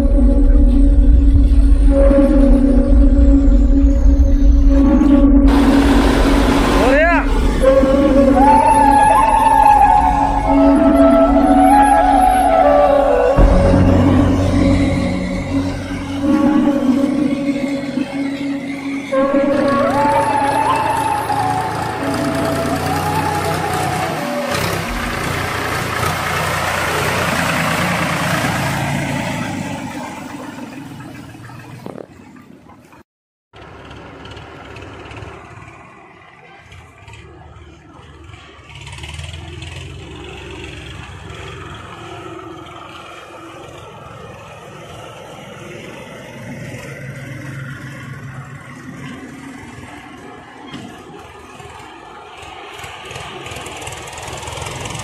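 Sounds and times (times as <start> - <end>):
tractor diesel engine under load: 0.0 - 33.0, 33.6 - 55.0.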